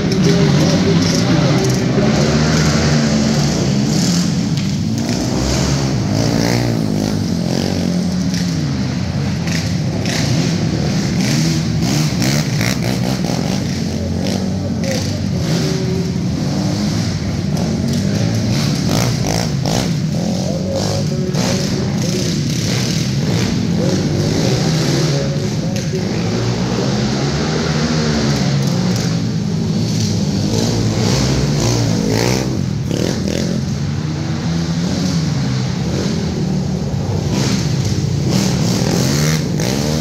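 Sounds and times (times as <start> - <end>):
quad bike engines revving: 0.0 - 40.0.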